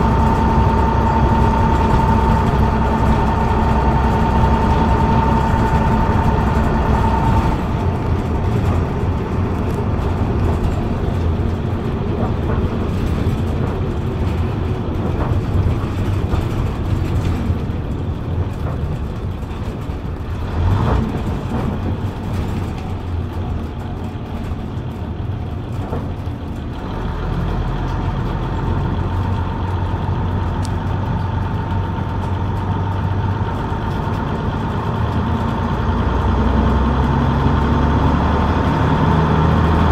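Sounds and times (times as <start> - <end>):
bus diesel engine hum and whine: 0.0 - 39.9.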